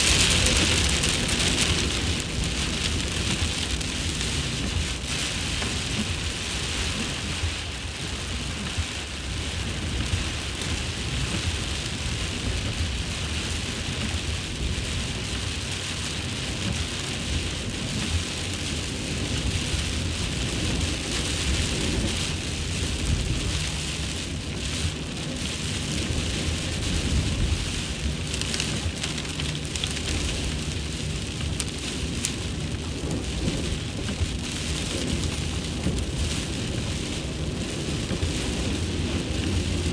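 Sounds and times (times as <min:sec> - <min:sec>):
low rumble: 0:00.0 - 0:16.0, 0:17.5 - 0:39.9
heavy rain pouring: 0:00.0 - 0:39.9.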